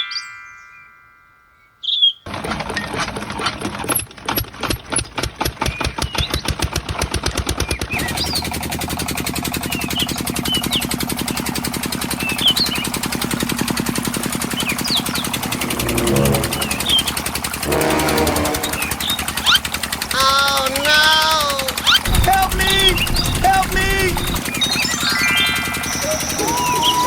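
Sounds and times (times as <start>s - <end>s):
small diesel pump engine chugging: 2.3s - 27.0s.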